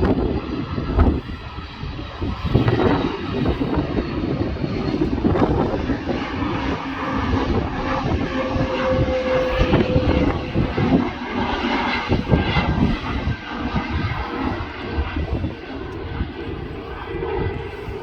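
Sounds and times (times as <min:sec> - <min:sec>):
jet airliner engines droning: 0:00.0 - 0:18.0.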